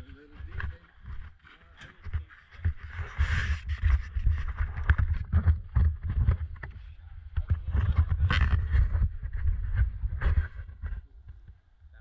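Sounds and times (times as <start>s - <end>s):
low microphone rumble: 0.0s - 12.0s
knocks and clicks on camera: 0.5s - 10.9s.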